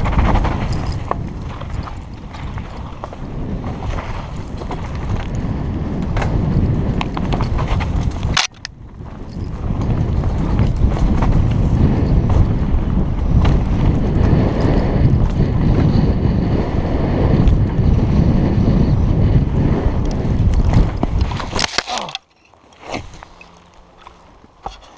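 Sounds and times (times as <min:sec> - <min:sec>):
wind rushing over microphone: 0:00.0 - 0:22.2
bike rattling clicks: 0:00.0 - 0:24.9
tyre rumble: 0:00.0 - 0:24.9.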